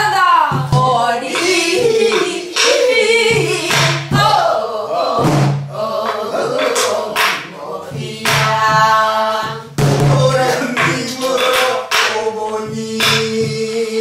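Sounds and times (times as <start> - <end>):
people singing folk song: 0.0 - 14.0
sharp percussive strokes: 0.5 - 4.5, 5.1 - 14.0.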